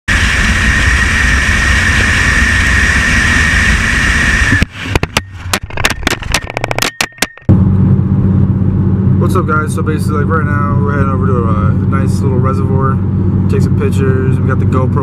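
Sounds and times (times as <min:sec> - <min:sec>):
car engine and road noise: 0:00.1 - 0:15.0
high whine: 0:00.1 - 0:15.0.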